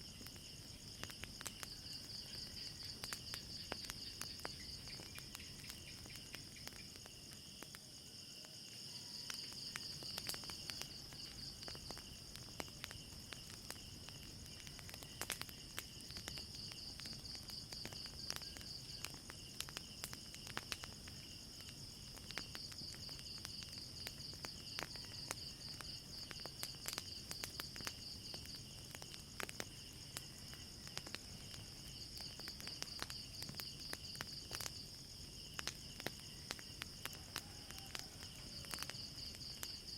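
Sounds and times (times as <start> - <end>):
crickets chirring: 0.0 - 39.9
fire crackling and popping: 0.0 - 39.9.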